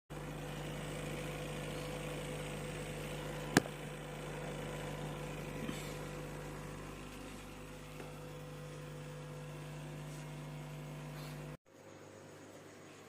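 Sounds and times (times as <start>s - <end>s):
rough hum through speakers: 0.1s - 13.0s.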